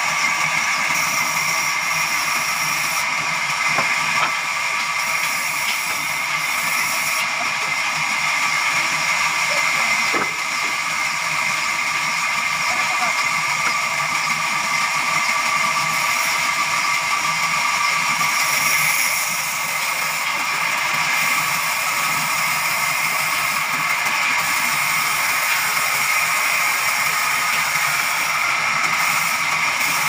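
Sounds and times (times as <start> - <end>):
band saw cutting log: 0.0 - 30.0.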